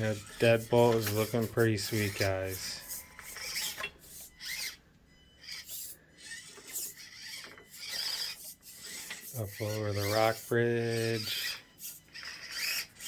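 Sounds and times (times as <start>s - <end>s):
toy car tires scraping over obstacles: 0.0s - 4.8s, 5.4s - 13.0s.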